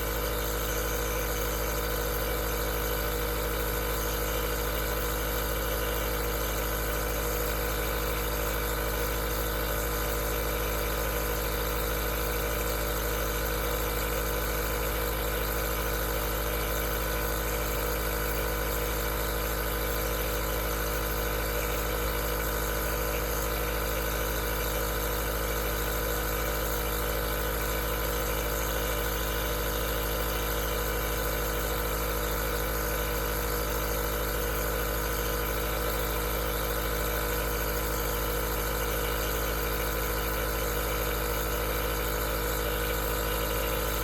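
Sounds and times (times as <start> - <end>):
nebulizer humming: 0.0 - 44.0.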